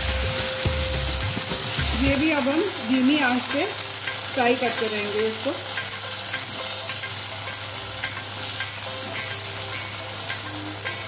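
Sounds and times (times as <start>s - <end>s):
potatoes sizzling in hot oil: 0.0s - 11.0s.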